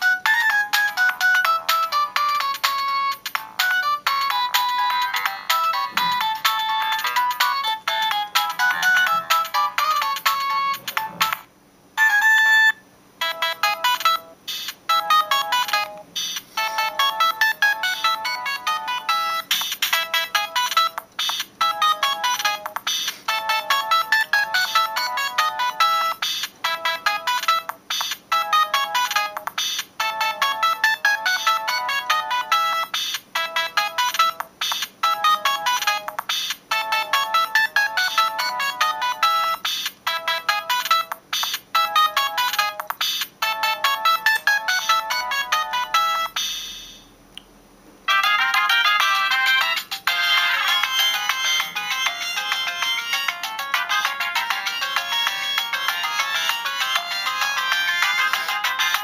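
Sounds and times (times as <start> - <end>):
mobile phone ringtone melody: 0.0 - 11.4, 12.0 - 47.1, 48.1 - 59.0.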